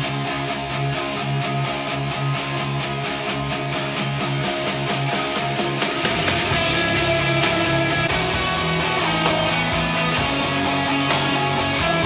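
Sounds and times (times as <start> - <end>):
rock music through speakers: 0.0 - 12.0.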